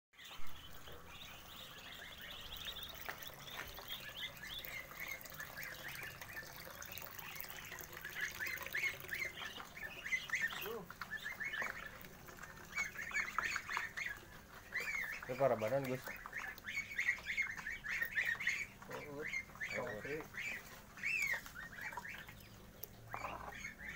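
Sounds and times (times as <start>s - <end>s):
goslings and ducklings peeping: 0.2s - 23.9s.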